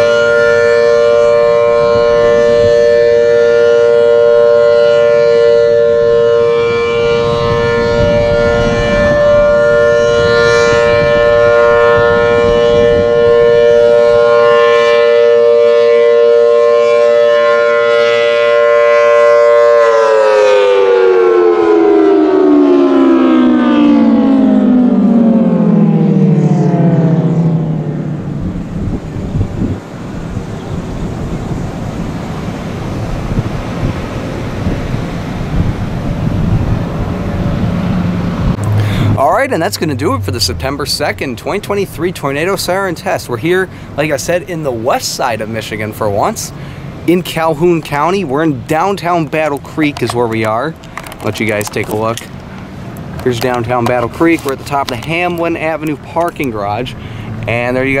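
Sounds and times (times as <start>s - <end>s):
warning siren winding down: 0.0s - 30.1s, 34.6s - 50.7s, 52.5s - 58.0s.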